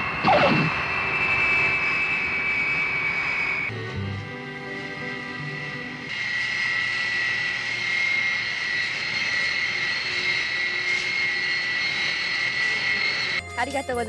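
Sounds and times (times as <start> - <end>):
jet engines whining: 0.0 - 13.4.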